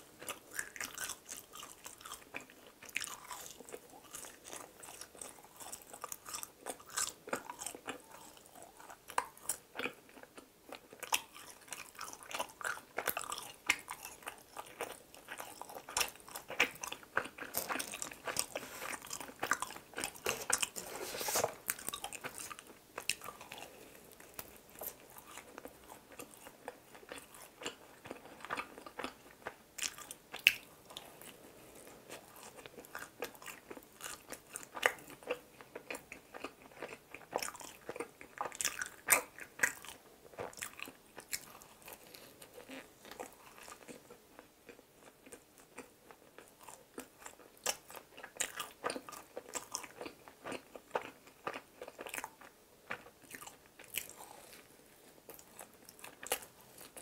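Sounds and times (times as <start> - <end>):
biting and chewing doughnut: 0.0 - 57.0.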